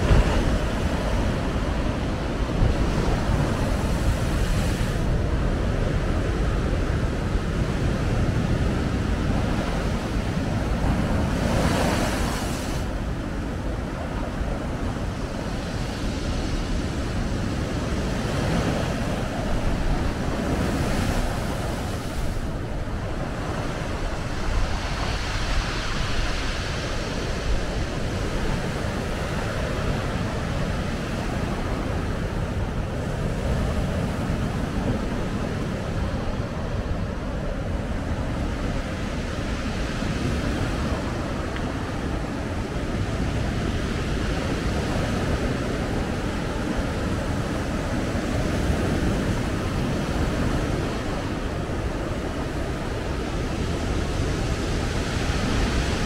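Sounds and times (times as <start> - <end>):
surf breaking on shore: 0.0 - 56.0
wind buffeting microphone: 0.0 - 56.0.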